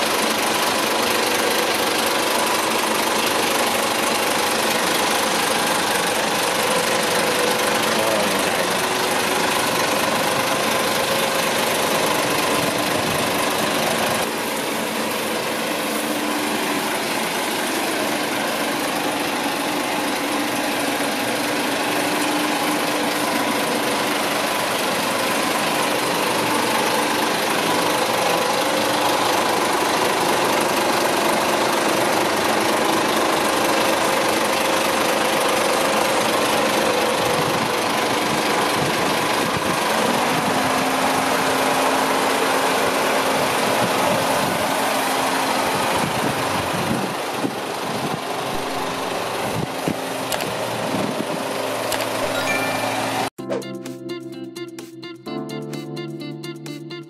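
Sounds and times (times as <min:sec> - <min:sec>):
diesel truck engine running: 0:00.0 - 0:53.4.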